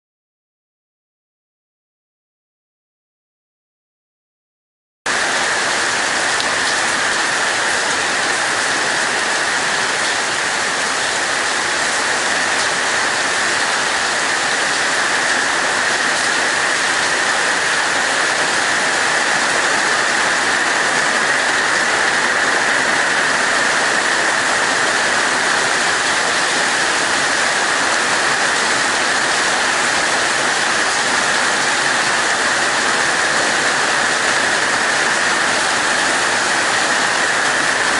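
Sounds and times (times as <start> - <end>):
heavy rain pouring: 5.1 - 37.9.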